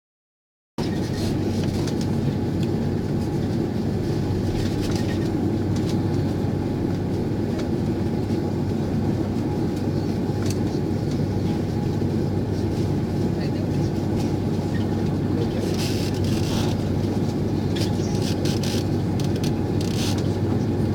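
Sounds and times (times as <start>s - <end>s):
jet engines low rumble: 0.8s - 20.9s.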